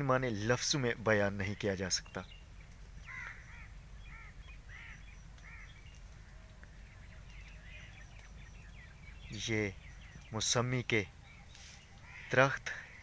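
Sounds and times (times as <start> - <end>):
birds calling: 0.0 - 13.0
low background rumble: 0.0 - 13.0.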